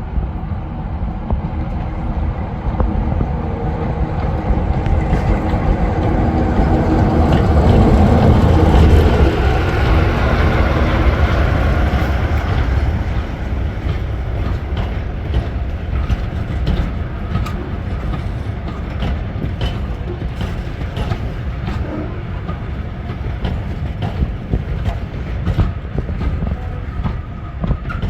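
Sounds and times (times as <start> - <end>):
diesel locomotive engine: 0.0 - 28.0.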